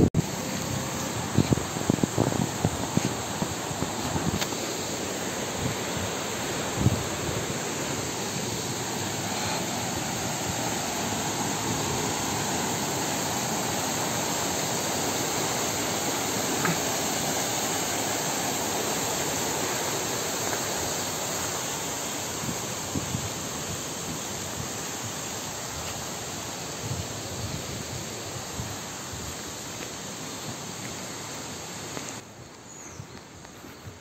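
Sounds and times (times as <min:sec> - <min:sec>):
flowing water rushing: 0:00.0 - 0:32.2.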